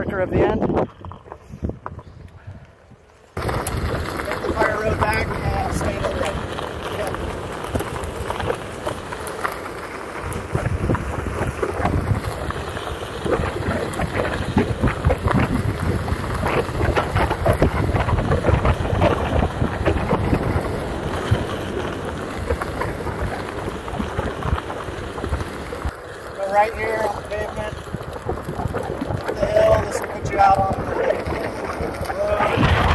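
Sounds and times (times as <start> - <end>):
steady low rumble: 0.0 - 32.9
tyre rolling over gravel: 0.0 - 32.9
wind rushing over microphone: 0.0 - 32.9.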